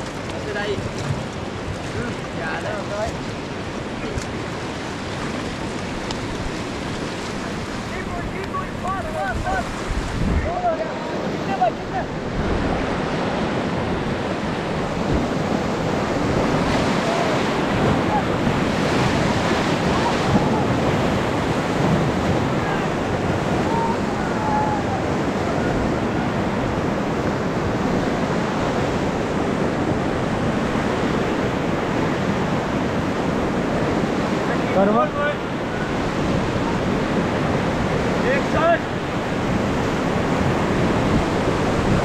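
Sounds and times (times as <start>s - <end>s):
whitewater rushing: 0.0s - 42.0s
wind buffeting microphone: 0.0s - 42.0s.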